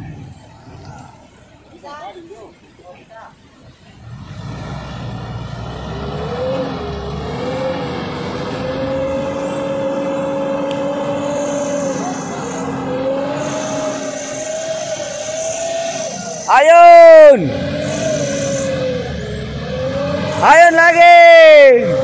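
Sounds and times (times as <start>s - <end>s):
truck engine at high revs: 3.9s - 22.0s.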